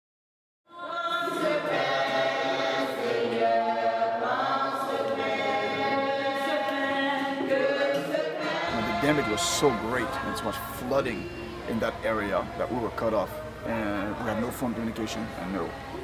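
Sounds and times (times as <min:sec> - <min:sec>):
choir singing long notes: 0:00.7 - 0:16.0.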